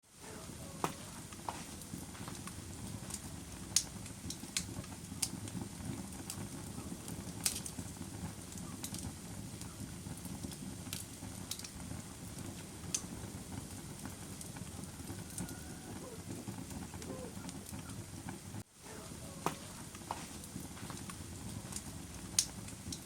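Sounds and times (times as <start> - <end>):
campfire flames rumbling: 0.1 - 23.0
wood crackling and popping: 0.1 - 23.0.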